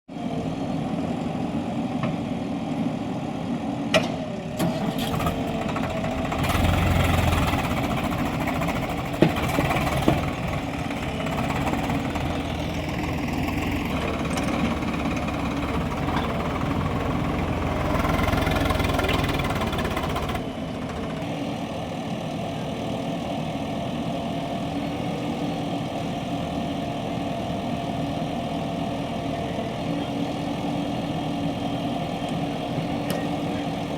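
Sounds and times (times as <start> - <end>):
tractor engines revving: 2.6 - 33.9.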